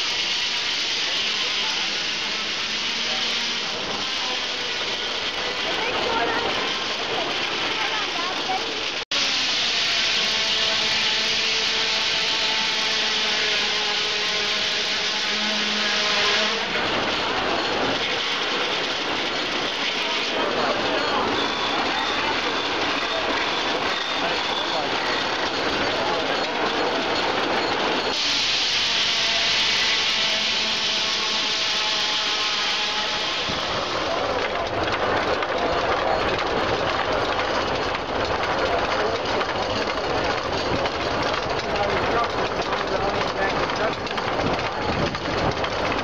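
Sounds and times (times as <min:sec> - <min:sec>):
circular saw cutting wood: 0:00.0 - 0:44.2
sawmill machinery: 0:00.0 - 0:46.0.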